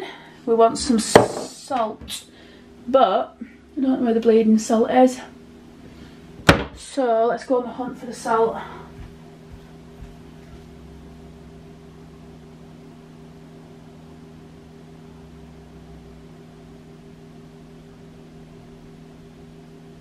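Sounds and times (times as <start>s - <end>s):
appliance hum: 0.0s - 20.0s.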